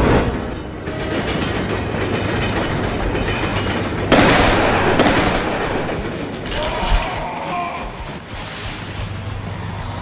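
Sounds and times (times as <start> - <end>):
cartoon steam train rumbling: 0.0 - 10.0.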